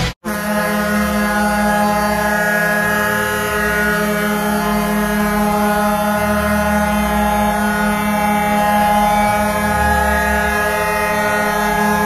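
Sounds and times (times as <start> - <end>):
goal horn long blast: 0.0 - 12.0.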